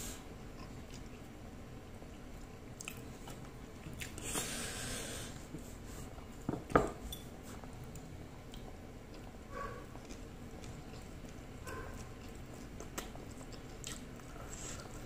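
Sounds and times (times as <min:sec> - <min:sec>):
person chewing soft food: 0:00.4 - 0:01.3, 0:02.1 - 0:06.3, 0:07.4 - 0:15.0.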